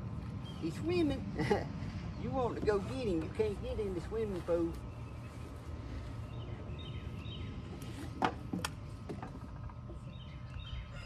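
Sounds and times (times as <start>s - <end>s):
birds chirping: 0.0s - 11.0s
low background rumble: 0.0s - 11.0s.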